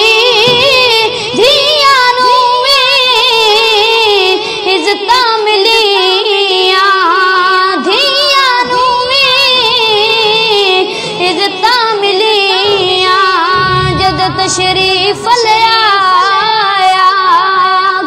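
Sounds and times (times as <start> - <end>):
boy singing devotional song: 0.0 - 18.0.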